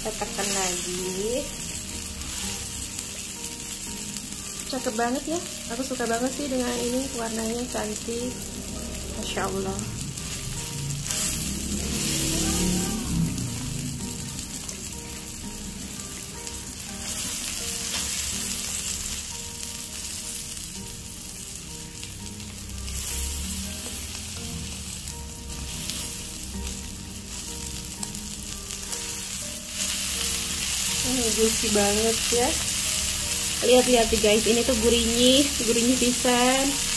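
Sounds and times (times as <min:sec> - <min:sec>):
steak sizzling in a hot pan: 0:00.0 - 0:36.9.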